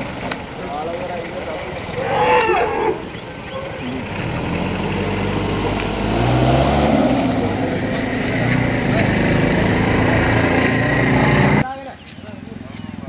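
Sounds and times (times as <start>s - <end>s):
engine running: 0.0s - 11.6s.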